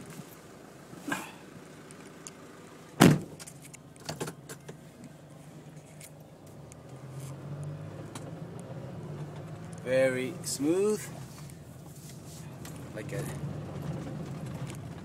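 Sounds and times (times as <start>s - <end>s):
car cabin engine hum: 0.0s - 15.0s.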